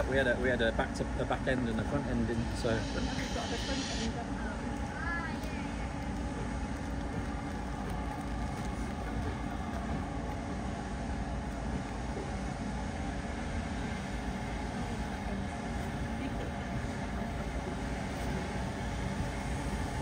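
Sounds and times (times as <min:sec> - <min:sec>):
faint hum tones: 0:00.0 - 0:20.0
moving vehicle rumble: 0:00.0 - 0:20.0.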